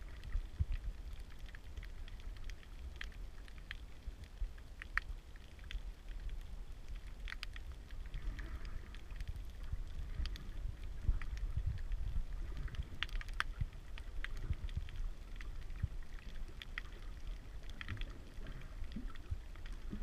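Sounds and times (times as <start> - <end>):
sharp clicks and crackles: 0.0 - 20.0
underwater rumble of moving water: 0.0 - 20.0.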